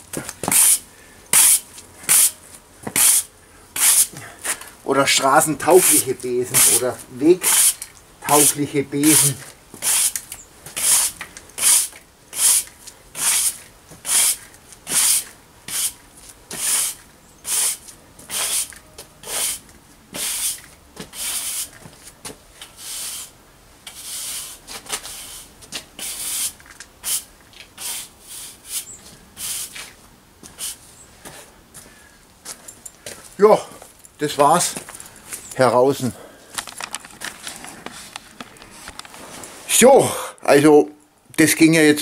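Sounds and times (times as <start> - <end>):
broom sweeping on concrete: 0.1 - 31.6, 37.4 - 39.8.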